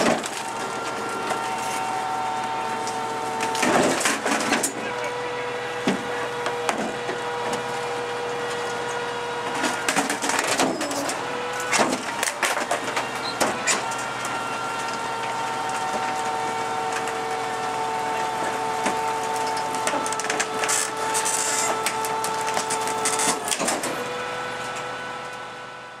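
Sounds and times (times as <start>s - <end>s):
rubbish clattering and cracking: 0.0s - 5.0s, 5.8s - 24.8s
hydraulic compactor whining: 0.0s - 26.0s.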